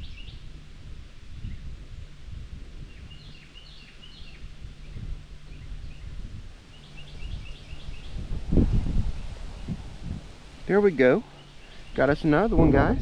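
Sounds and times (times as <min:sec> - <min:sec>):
low steady rumble: 0:00.0 - 0:13.0
songbirds chirping: 0:00.0 - 0:13.0.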